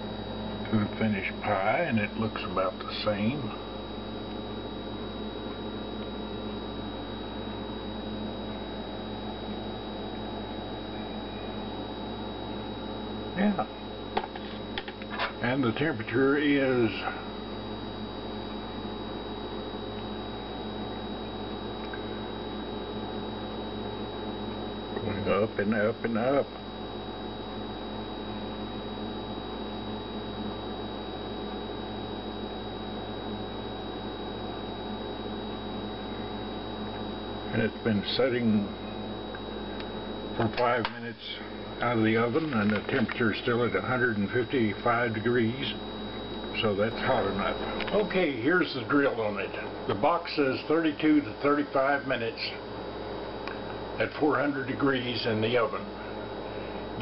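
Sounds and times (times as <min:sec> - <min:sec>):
electrical hum: 0:00.0 - 0:57.0
high-pitched whine: 0:00.0 - 0:57.0.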